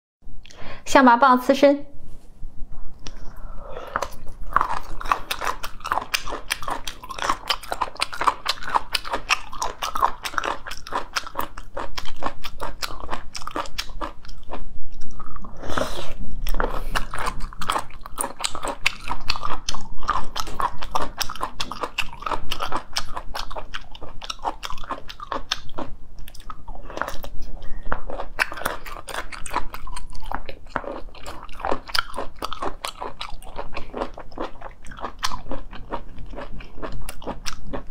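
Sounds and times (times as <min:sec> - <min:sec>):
wet crunching and chewing: 0:03.8 - 0:37.9.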